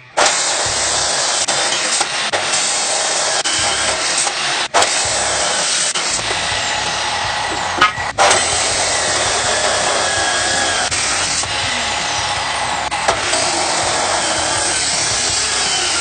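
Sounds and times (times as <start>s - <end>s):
power tool running: 0.0s - 16.0s.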